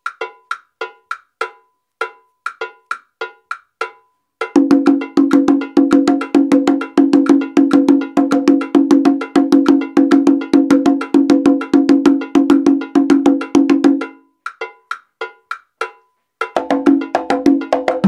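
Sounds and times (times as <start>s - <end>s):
conga played with bare hands: 0.0s - 18.0s
programmed percussion backing track: 0.0s - 18.0s.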